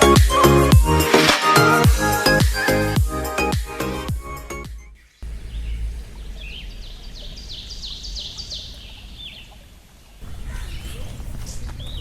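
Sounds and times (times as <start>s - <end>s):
birds calling: 2.0s - 12.0s.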